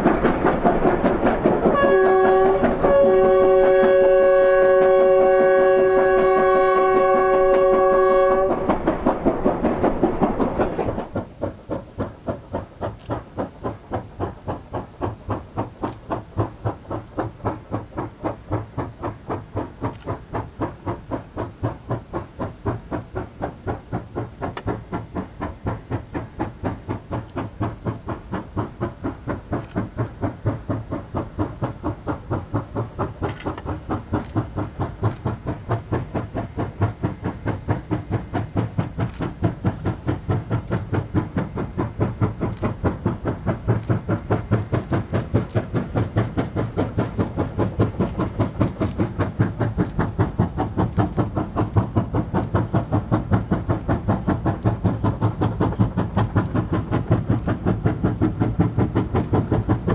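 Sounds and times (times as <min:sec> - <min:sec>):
steam locomotive chuffing: 0:00.0 - 0:59.9.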